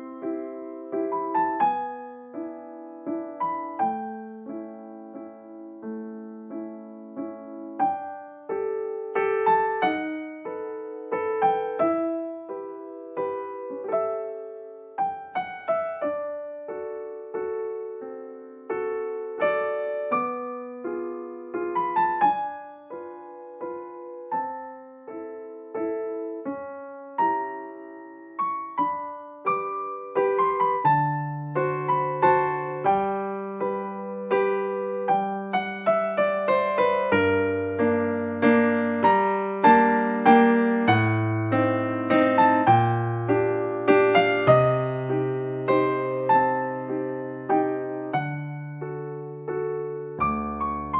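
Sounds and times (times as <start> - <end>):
gentle piano music: 0.0 - 50.9.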